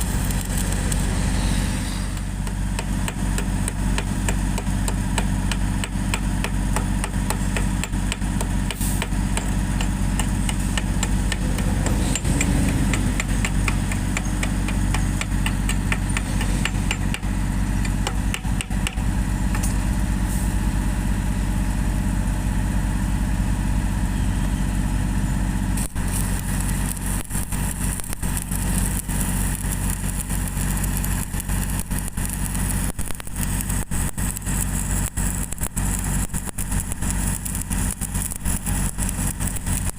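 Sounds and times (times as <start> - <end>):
welding arc crackling: 0.0 - 21.2, 25.6 - 39.9
generator engine running: 0.0 - 39.9.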